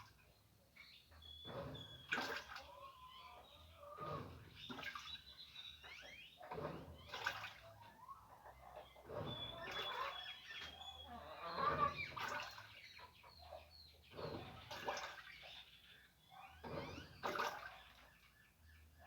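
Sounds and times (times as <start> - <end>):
washing machine water sloshing: 1.3 - 18.3.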